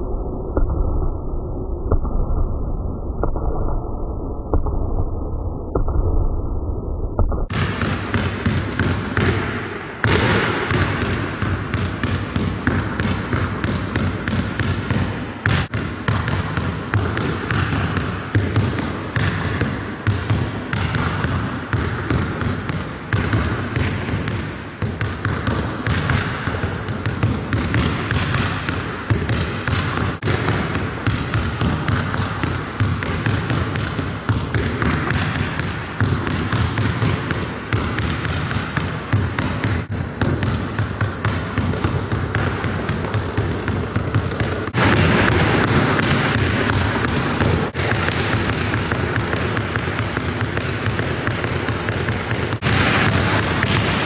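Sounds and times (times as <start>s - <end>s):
basketballs bouncing on hard court: 7.2s - 54.0s.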